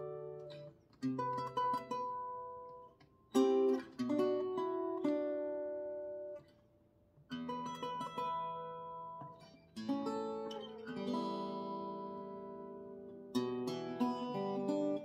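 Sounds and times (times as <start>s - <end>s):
acoustic guitar picked notes and chords: 0.0s - 6.6s, 7.2s - 15.0s.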